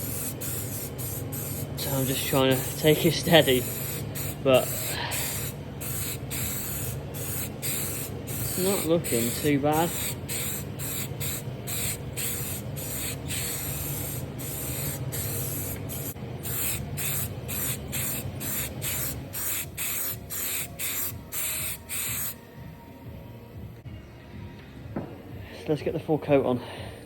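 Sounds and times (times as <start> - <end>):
spray paint hissing: 0.0 - 22.5.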